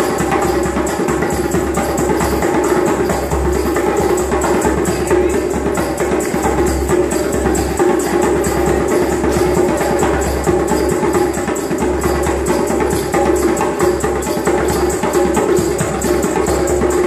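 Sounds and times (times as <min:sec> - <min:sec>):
hand drum fast rhythm: 0:00.0 - 0:17.0.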